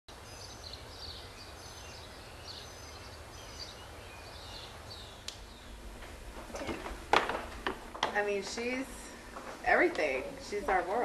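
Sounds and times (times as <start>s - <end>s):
faint birds chirping: 0.1s - 11.0s.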